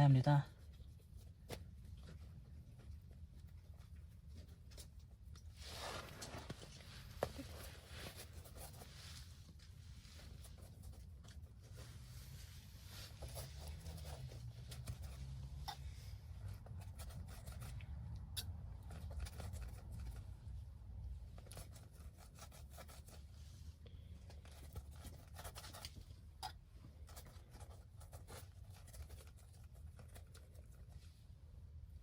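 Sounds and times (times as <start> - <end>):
scratching and rubbing: 0.5 - 32.0.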